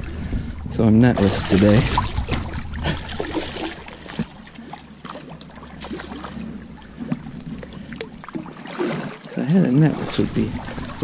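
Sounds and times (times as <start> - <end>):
fish thrashing in shallow water: 0.0 - 11.0.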